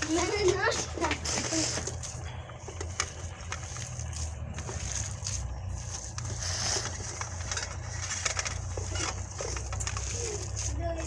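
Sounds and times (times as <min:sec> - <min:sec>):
steady low hum: 0:00.0 - 0:11.0
hands squishing minced meat: 0:01.8 - 0:11.0.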